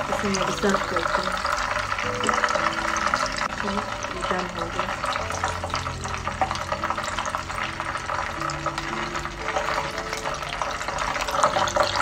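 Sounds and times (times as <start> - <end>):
oil sizzling and popping in a pan: 0.0 - 12.0.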